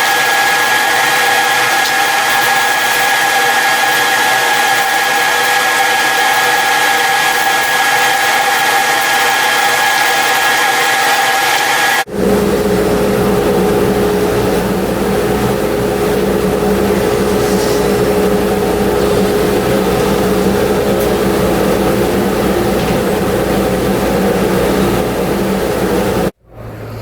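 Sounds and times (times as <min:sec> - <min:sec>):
machine droning: 0:00.0 - 0:27.0.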